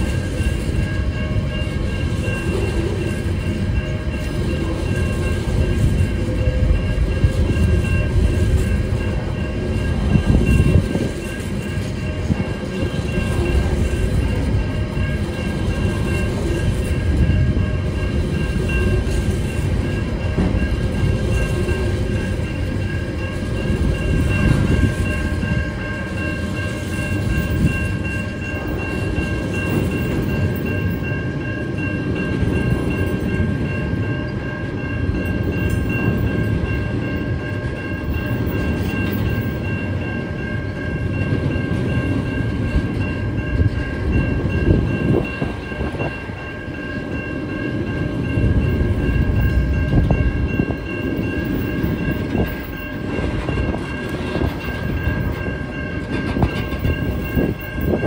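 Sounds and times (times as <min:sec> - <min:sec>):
high ringing tone: 0:00.0 - 0:58.0
train wheels rumbling on rails: 0:00.0 - 0:58.0.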